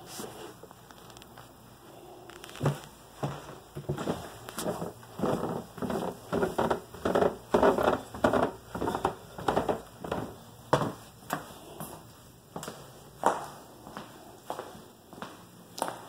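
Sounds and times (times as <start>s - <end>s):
footsteps on hardwood floor: 2.3s - 16.0s.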